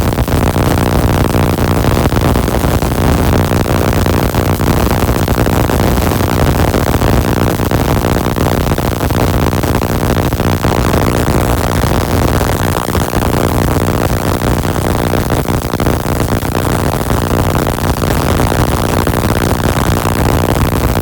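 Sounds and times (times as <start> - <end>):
buzzing crackle of sparks: 0.0 - 21.0
mains hum: 0.0 - 21.0.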